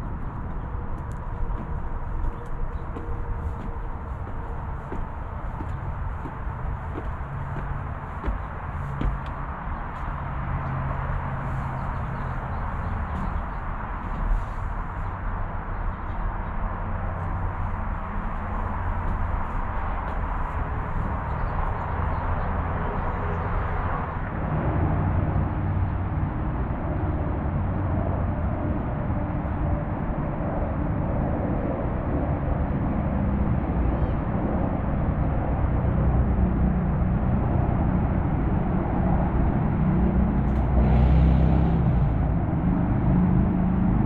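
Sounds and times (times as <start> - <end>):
low outdoor rumble: 0.0 - 44.0.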